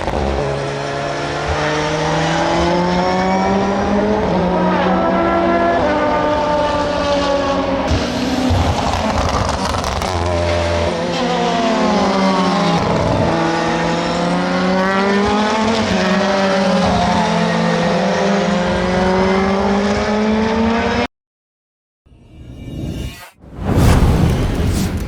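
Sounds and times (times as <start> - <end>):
race car engines at full throttle: 0.0 - 21.1.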